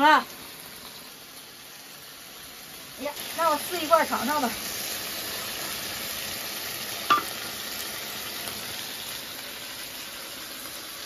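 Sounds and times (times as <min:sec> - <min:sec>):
stew sizzling in a wok: 0:00.0 - 0:11.0.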